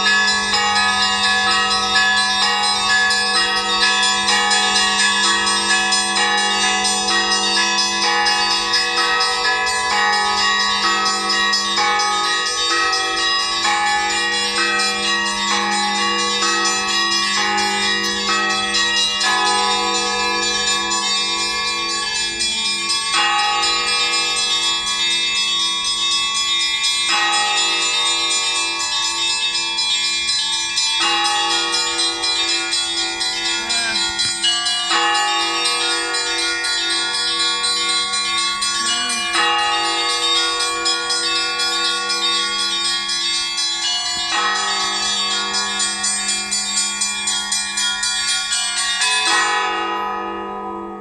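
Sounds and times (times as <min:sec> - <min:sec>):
church bells ringing: 0:00.0 - 0:51.0.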